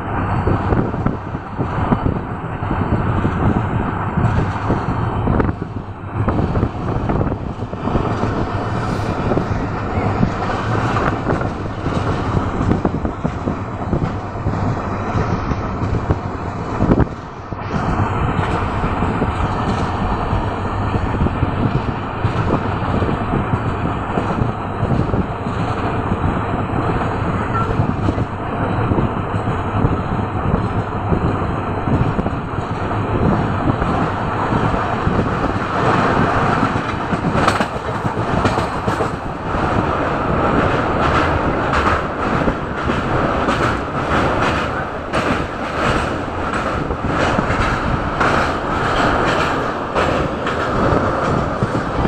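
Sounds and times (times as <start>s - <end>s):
rushing air: 0.0s - 52.0s
train wheels rumbling: 0.0s - 52.0s.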